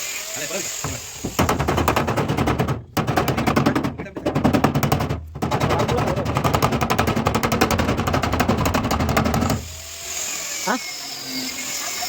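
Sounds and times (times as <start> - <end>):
power tool rattling on metal: 0.0 - 12.0.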